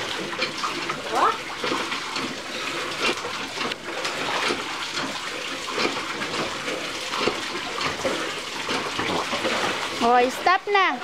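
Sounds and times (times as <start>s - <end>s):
water splashing in paddling pool: 0.0s - 11.0s.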